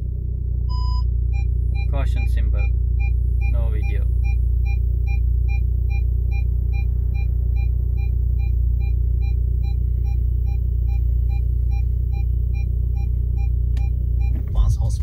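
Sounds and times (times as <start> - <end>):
car speakers low hum: 0.0 - 15.0
short electronic beeps: 0.7 - 14.4.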